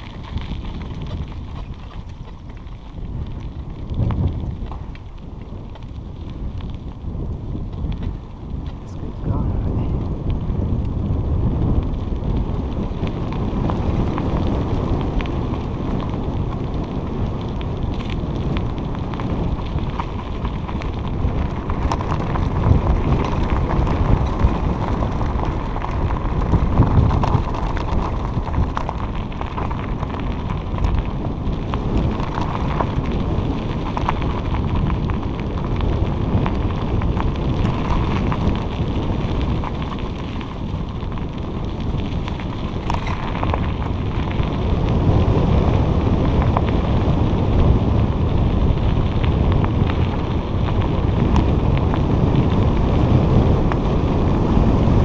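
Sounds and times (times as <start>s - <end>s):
bicycle tyres on dirt trail: 0.0s - 55.0s
wind buffeting microphone: 0.0s - 55.0s.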